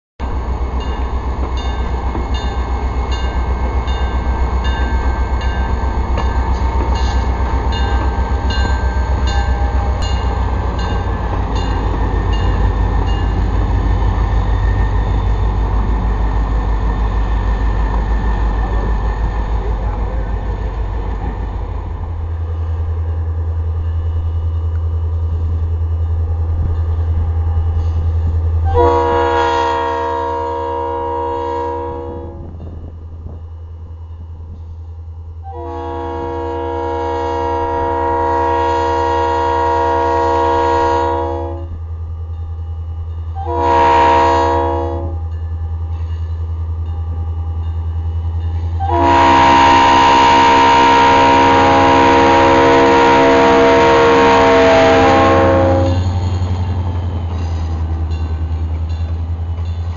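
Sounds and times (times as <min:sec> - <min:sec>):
diesel locomotive rumble: 0:00.2 - 0:59.9.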